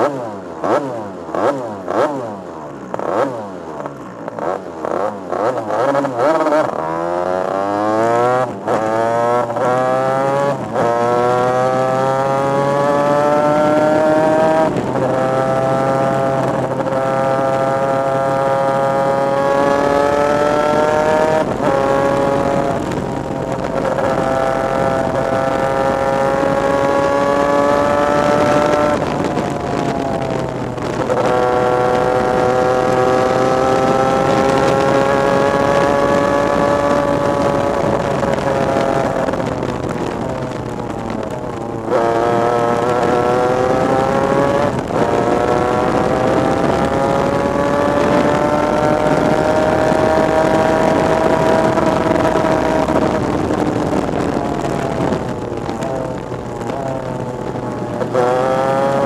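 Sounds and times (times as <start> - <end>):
racing kart engine at full throttle: 0.0 - 59.0.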